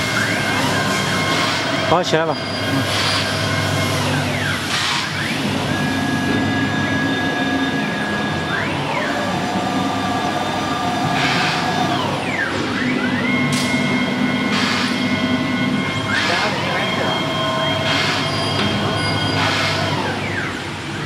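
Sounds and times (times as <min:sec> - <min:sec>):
spindle hum: 0:00.0 - 0:20.5
router motors whining: 0:00.0 - 0:20.7.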